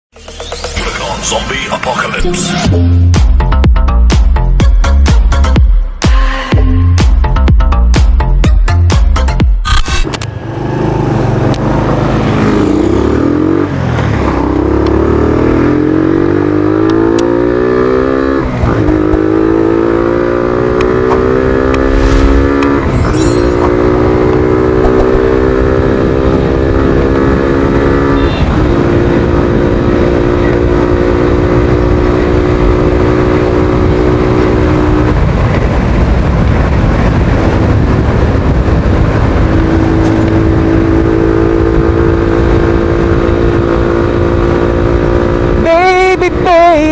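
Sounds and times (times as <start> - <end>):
motorcycle engine accelerating: 9.3 - 46.9.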